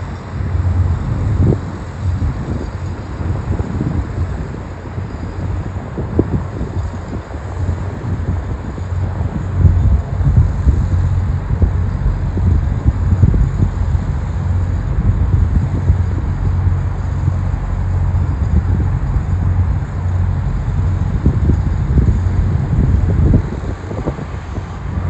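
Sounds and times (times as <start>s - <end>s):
car road and engine rumble: 0.0s - 25.0s
wind buffeting microphone: 0.0s - 25.0s.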